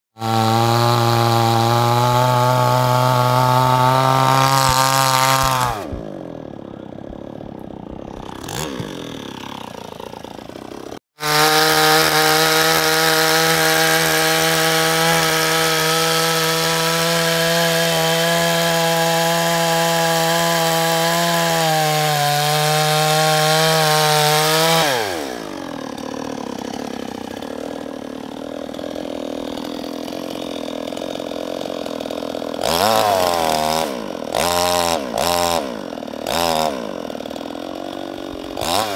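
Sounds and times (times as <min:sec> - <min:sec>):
chainsaw cutting log: 0:00.2 - 0:38.9.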